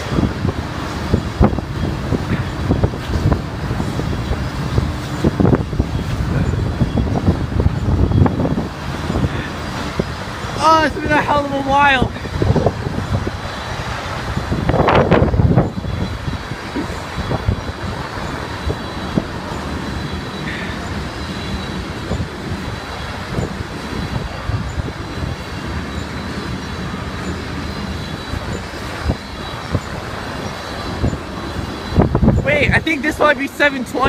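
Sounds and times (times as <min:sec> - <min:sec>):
freight train wheels on rail: 0:00.0 - 0:10.5, 0:12.3 - 0:32.4.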